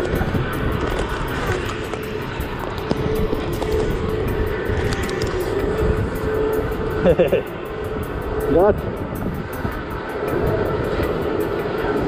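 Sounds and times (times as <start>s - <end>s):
roller coaster lift hum: 0.0s - 12.0s
wind rumbling on microphone: 0.0s - 12.0s.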